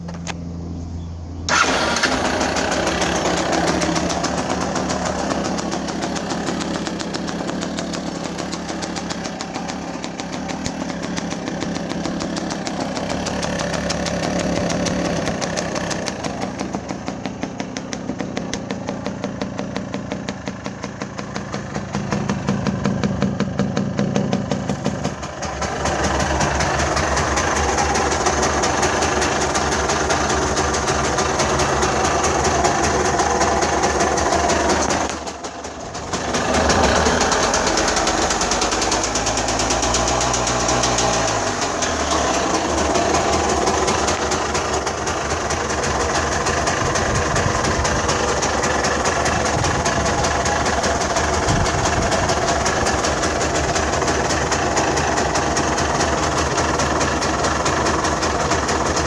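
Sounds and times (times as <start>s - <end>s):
engine starting and running: 0.0s - 59.0s.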